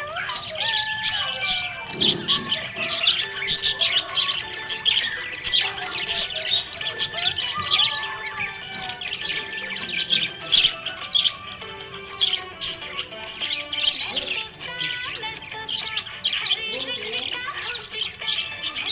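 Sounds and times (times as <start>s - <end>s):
background music sustained notes: 0.0s - 18.9s
budgerigars chirping: 0.0s - 18.9s.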